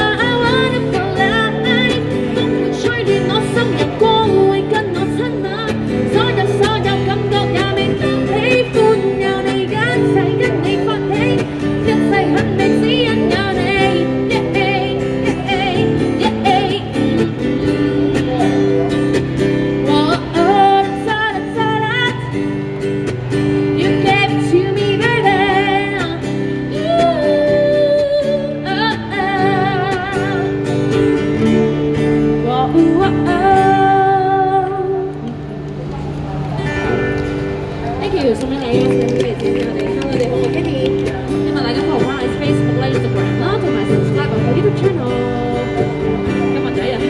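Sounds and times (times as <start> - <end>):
woman singing into a microphone: 0.0 - 22.8, 23.4 - 35.5, 38.3 - 47.0
acoustic guitar: 0.0 - 47.0.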